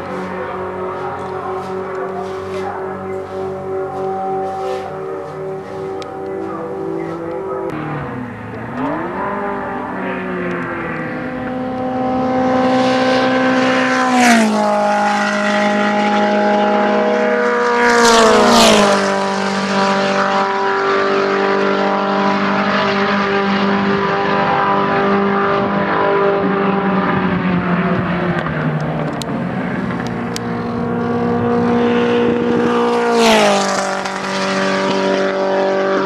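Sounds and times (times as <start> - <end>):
race car engines at speed: 0.0 - 36.0
race car passing close: 0.0 - 36.0.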